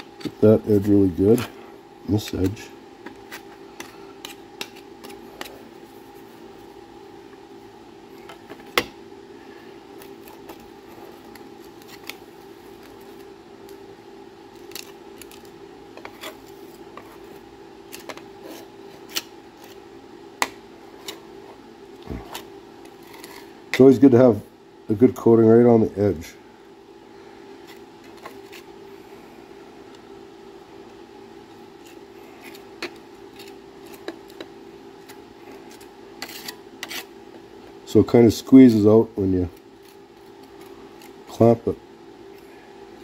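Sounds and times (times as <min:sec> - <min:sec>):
low background hum: 0:00.0 - 0:43.0.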